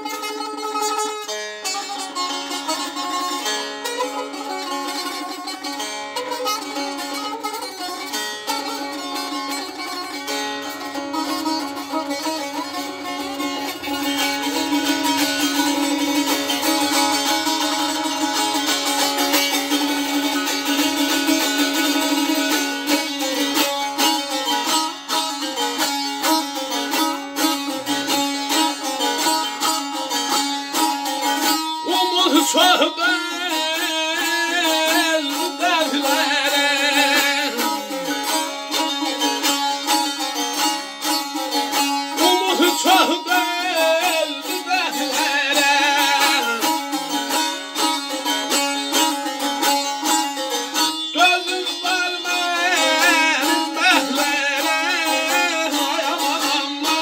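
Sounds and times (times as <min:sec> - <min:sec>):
plucked lute melody with drone: 0:00.0 - 0:57.0.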